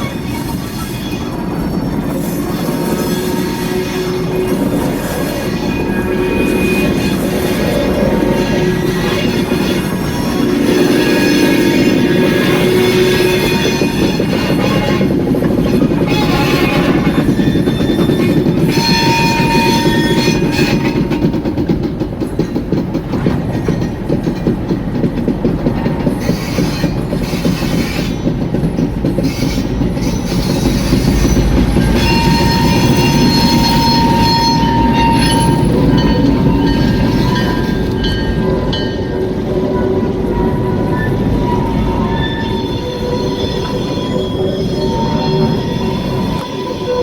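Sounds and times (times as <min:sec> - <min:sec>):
freight cars clattering on rails: 0:00.0 - 0:47.0
locomotive engine running: 0:00.0 - 0:47.0
wheels squealing: 0:00.0 - 0:47.0.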